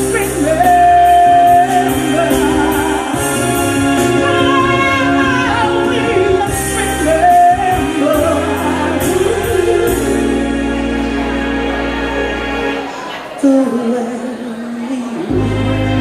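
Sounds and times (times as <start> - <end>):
woman singing: 0.0 - 10.7, 13.4 - 15.6
musical accompaniment: 0.0 - 14.5, 15.2 - 16.0.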